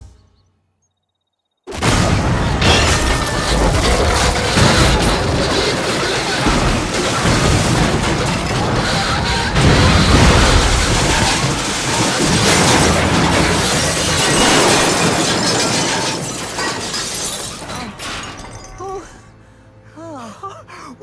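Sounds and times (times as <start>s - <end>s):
train crash booming and smashing: 1.7s - 18.9s.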